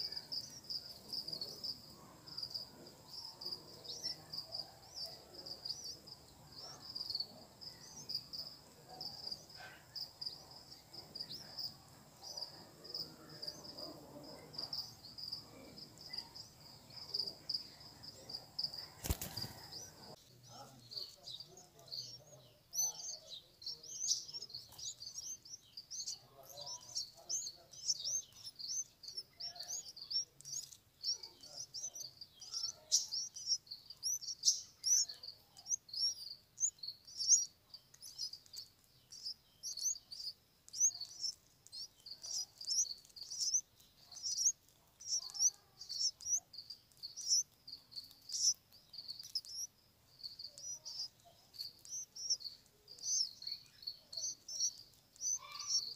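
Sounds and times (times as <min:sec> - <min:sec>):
nestlings chirping: 0:00.0 - 0:55.9.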